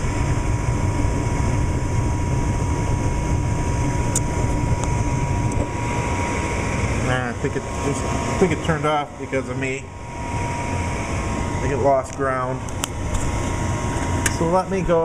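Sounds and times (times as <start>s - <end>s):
furnace fan rumble: 0.0s - 15.0s.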